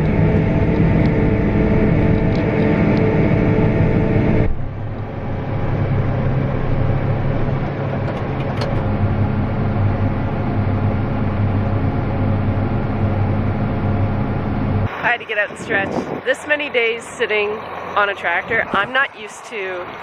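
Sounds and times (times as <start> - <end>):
farm machinery diesel engine drone: 0.0 - 20.0.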